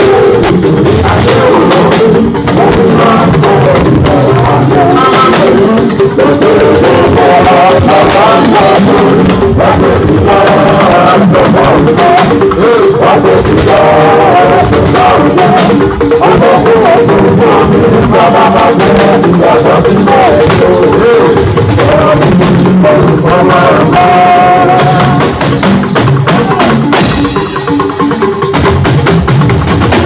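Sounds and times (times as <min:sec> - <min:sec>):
loud music with singing: 0:00.0 - 0:30.0.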